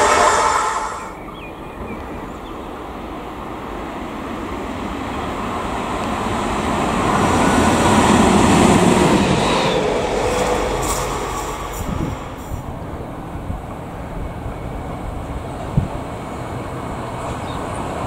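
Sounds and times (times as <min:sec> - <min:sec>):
electric locomotive passing: 0:00.0 - 0:18.0.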